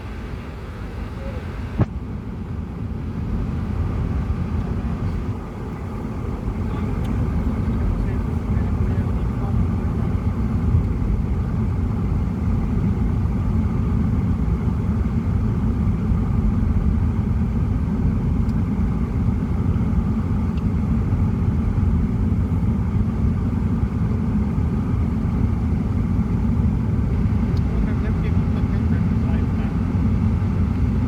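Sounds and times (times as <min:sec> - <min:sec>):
car engine and tyres rumbling: 0:00.0 - 0:31.0.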